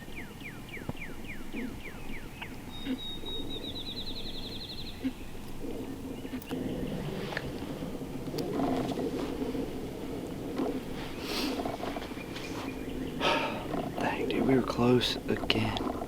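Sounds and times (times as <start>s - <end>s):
songbirds whistling and trilling: 0.0s - 16.0s.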